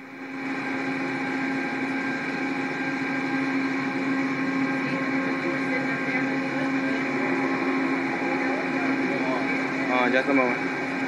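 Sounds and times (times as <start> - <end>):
train mechanical hum: 0.0 - 11.0.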